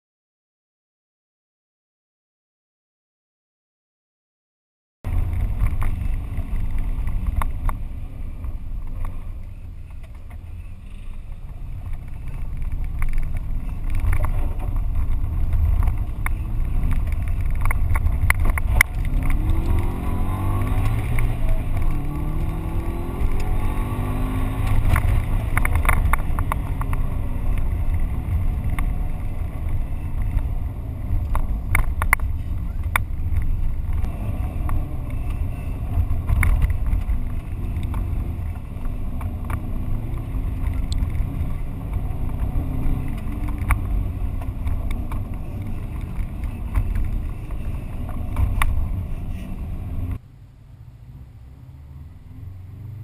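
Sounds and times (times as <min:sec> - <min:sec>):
tyre and road noise: 0:05.0 - 0:53.0
rally car engine revving: 0:05.1 - 0:50.2.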